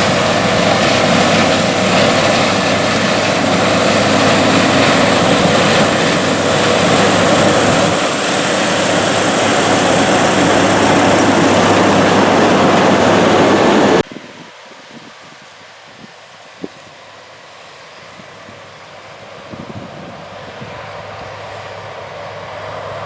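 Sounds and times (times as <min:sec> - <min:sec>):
combine harvester running: 0:00.0 - 0:14.1, 0:17.2 - 0:23.0.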